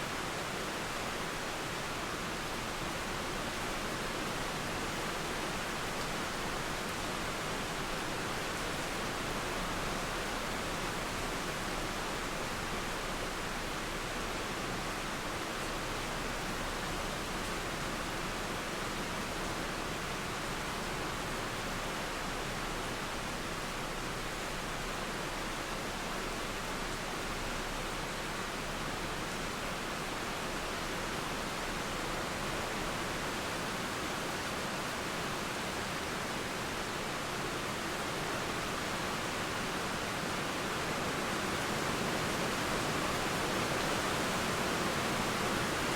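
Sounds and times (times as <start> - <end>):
river flowing: 0.0 - 45.9
steady rain: 0.0 - 45.9.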